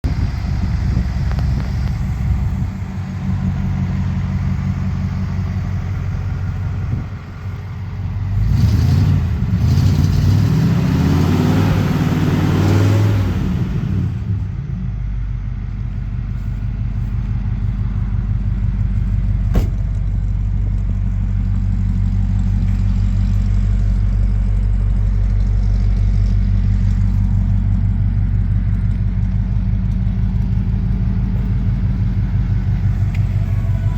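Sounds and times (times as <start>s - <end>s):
pickup engine idling and revving: 0.0s - 33.9s.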